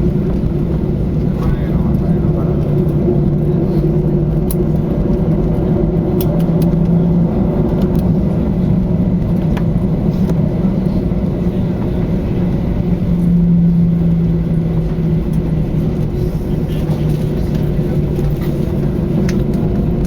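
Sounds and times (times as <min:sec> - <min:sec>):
jet engines idling hum: 0:00.0 - 0:20.0.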